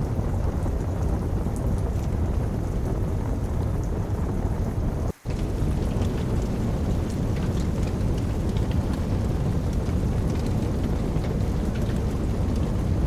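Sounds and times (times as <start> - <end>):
deep continuous rumble: 0.0 - 13.0
sharp crackles and drips: 0.0 - 13.0
steady rain: 0.0 - 13.0.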